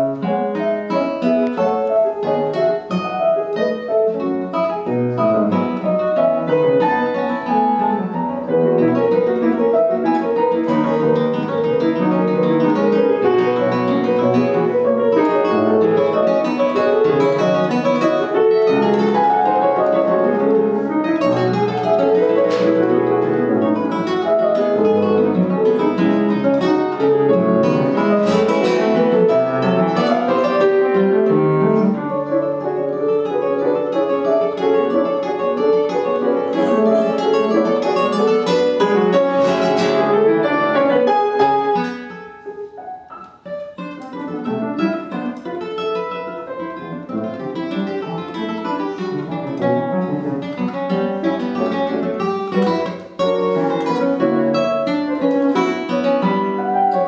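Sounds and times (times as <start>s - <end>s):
piano playing: 0.0s - 57.0s
plucked classical guitar: 0.0s - 57.0s.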